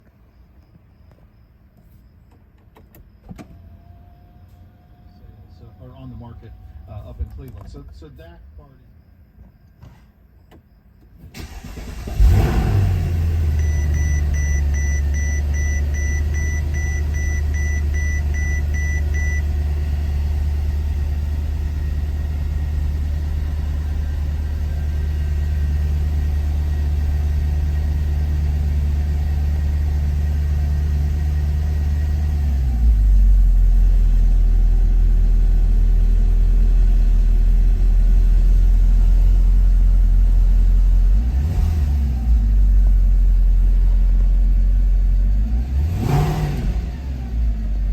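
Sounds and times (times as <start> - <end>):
car engine starting and idling: 0.0 - 47.9.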